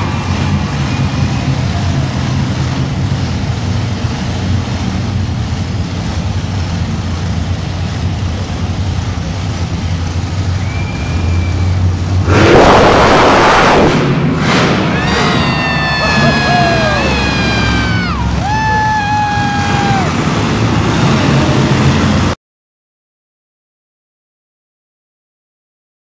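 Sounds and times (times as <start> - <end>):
loud rushing burst of noise: 0.0 - 22.4
truck engine droning: 0.0 - 22.4.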